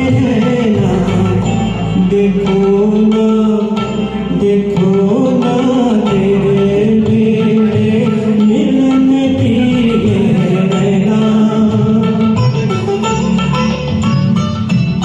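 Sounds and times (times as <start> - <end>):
person singing: 0.0 - 12.9
karaoke backing track: 0.0 - 15.0.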